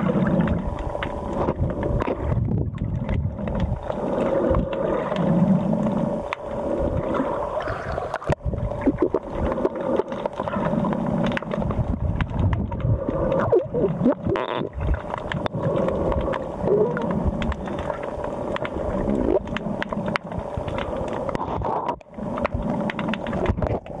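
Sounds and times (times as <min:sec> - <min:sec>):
underwater hum: 0:00.0 - 0:24.0
water gurgling: 0:00.0 - 0:24.0.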